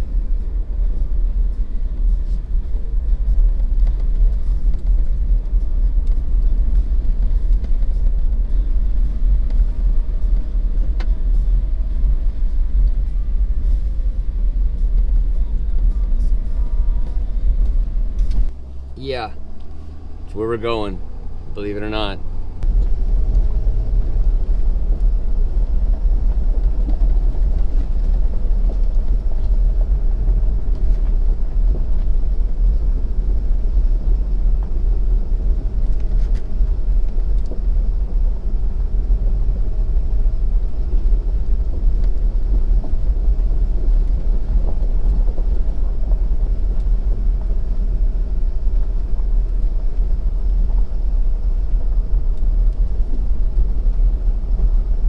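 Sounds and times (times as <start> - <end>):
diesel truck engine rumble: 0.0 - 55.0.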